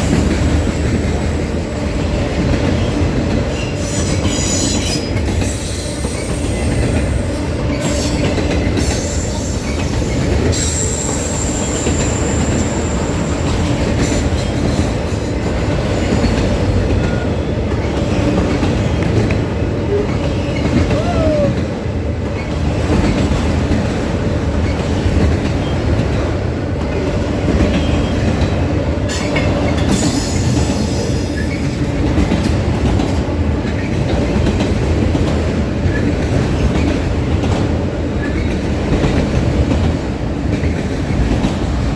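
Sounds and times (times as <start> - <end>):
train cars rumbling on rails: 0.0 - 41.9.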